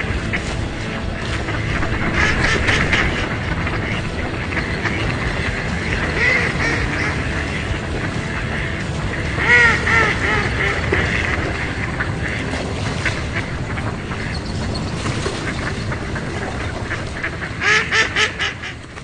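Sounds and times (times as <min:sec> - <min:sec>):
steady rushing background: 0:00.0 - 0:19.0
waterfowl honking: 0:00.0 - 0:19.0.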